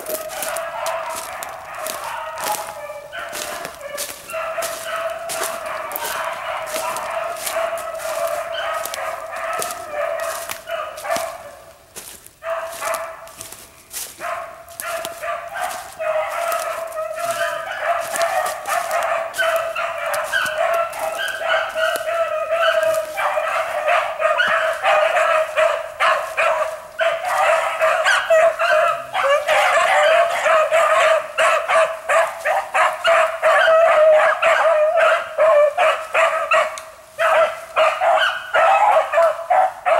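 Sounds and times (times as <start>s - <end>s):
hounds baying: 0.0s - 39.9s.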